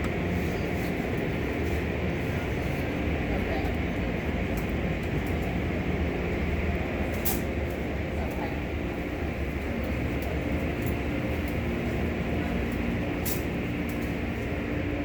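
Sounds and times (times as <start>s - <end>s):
car wash machinery humming: 0.0s - 15.0s.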